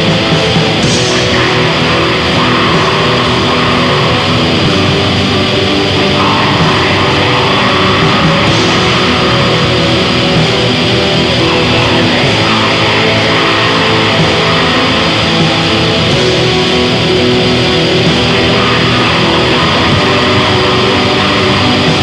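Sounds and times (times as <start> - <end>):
black metal music: 0.0 - 22.0.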